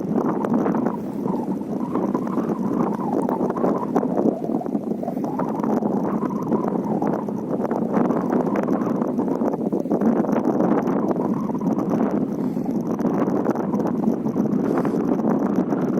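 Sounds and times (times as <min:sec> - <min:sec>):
wind blowing: 0:00.0 - 0:15.9.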